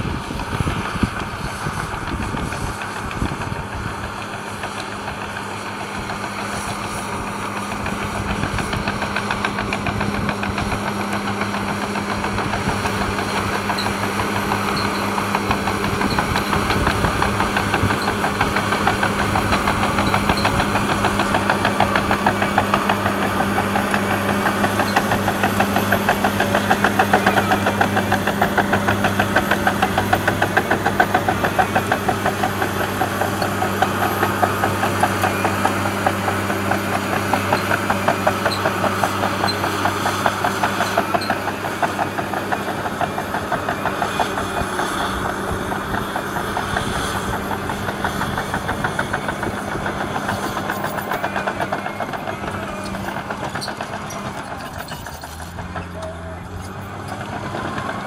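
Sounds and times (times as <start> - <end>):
bulldozer diesel engine under load: 0.0 - 58.0
steel tracks clattering: 0.0 - 58.0.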